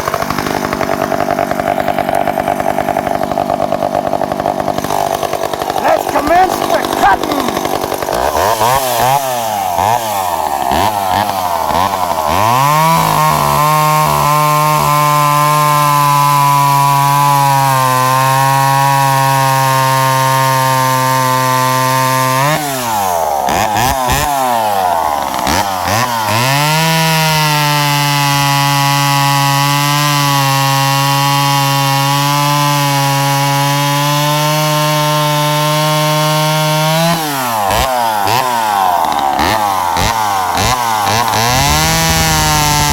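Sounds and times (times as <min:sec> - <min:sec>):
chainsaw cutting into log: 0:00.0 - 0:42.9.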